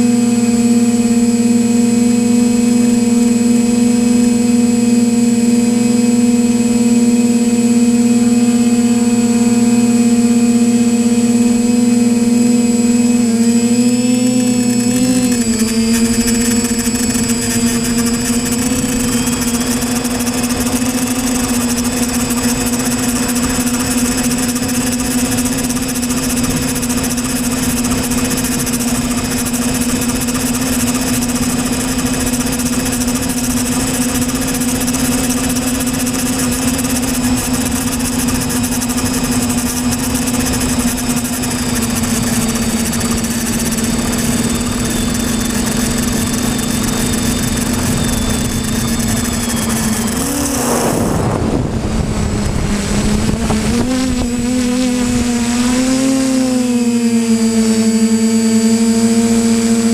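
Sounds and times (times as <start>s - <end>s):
drone motors droning hum: 0.0s - 59.9s.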